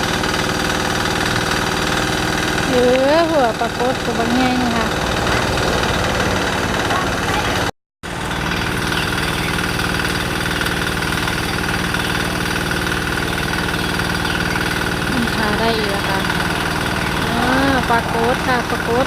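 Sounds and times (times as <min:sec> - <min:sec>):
water pump engine running: 0:00.0 - 0:19.0.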